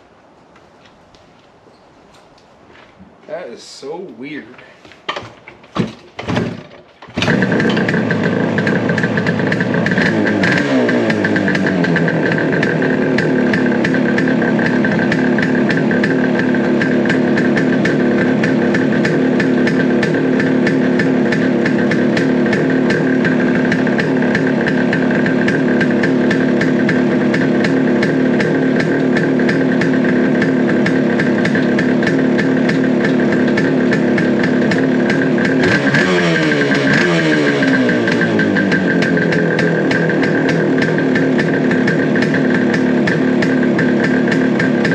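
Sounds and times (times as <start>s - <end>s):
two-stroke motorcycle engine idling: 6.2s - 44.9s.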